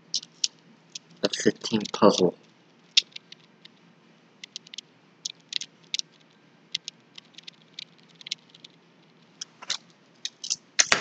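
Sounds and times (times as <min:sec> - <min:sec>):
small rattles: 0:00.1 - 0:10.6.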